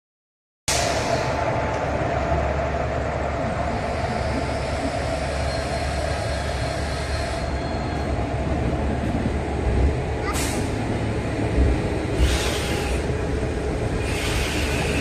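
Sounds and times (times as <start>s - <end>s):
wheels rumbling on rail: 0.7s - 15.0s.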